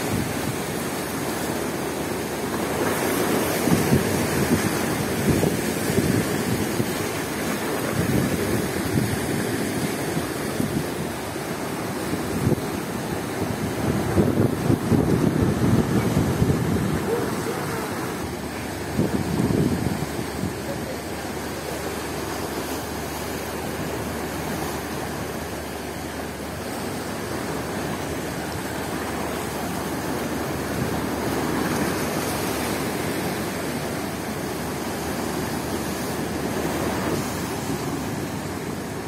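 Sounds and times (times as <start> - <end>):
surf washing against jetty: 0.0 - 39.0.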